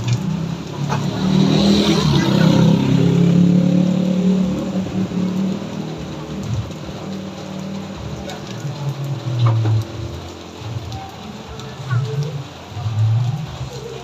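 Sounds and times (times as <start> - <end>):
heavy rain hissing: 0.0 - 14.0
vehicle engine passing by: 0.0 - 14.0.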